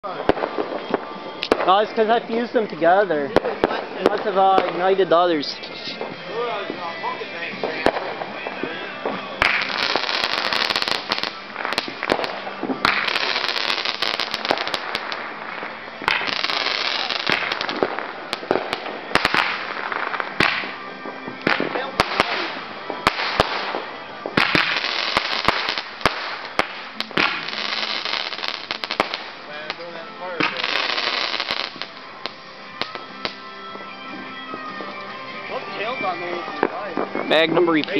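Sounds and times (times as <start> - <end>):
fireworks hissing and crackling: 0.0 - 37.9
fireworks popping: 0.0 - 37.9.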